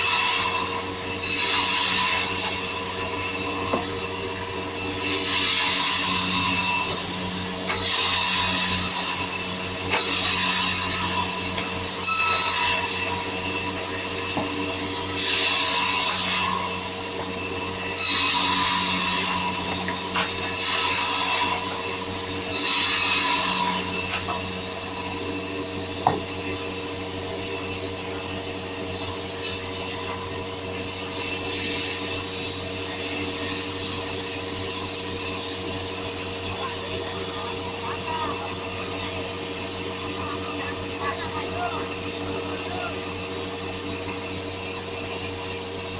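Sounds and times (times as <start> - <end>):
power saw cutting wood: 0.0 - 45.9.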